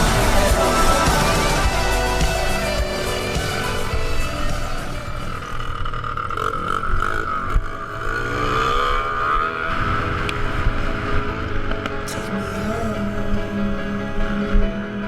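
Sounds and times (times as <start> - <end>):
small vehicle engine running: 0.0 - 14.6.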